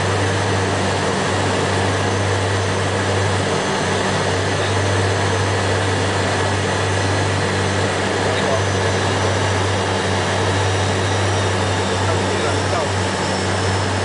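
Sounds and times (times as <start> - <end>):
jet engine drone: 0.0 - 14.0.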